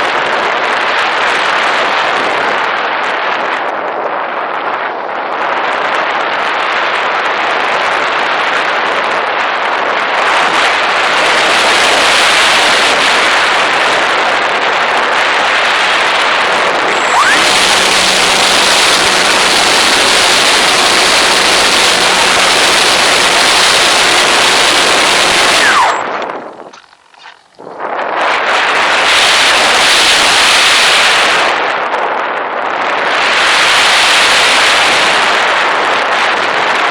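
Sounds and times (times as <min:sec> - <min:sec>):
rushing wind and flight noise: 0:00.0 - 0:36.9.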